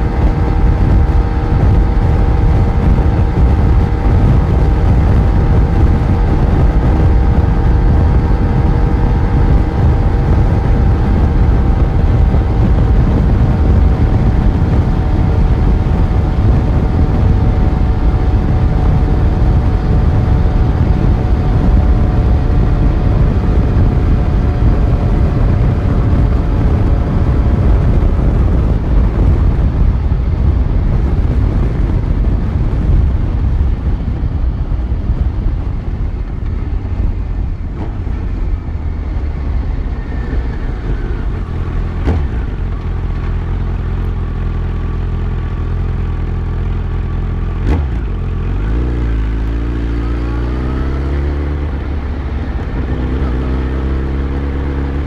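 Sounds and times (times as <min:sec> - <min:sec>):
motorcycle engine cruising: 0:00.0 - 0:55.0
wind noise: 0:00.0 - 0:55.0.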